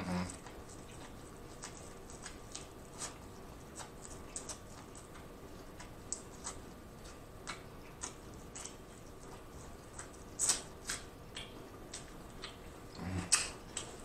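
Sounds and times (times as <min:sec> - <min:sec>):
chewing mouth clicks and smacks: 0:00.3 - 0:14.0.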